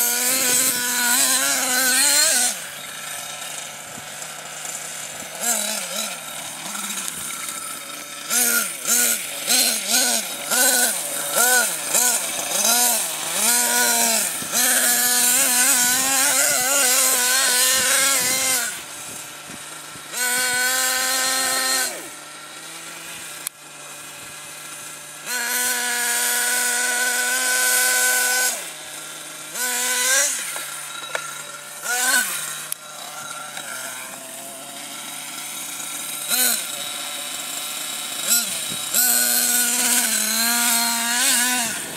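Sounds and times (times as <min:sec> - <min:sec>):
small two-stroke engine revving: 0:00.0 - 0:41.9.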